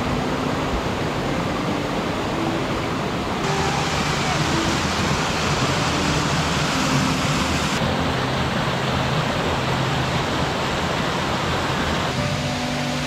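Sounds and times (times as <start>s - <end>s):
water rushing over boulders: 0.0s - 13.0s.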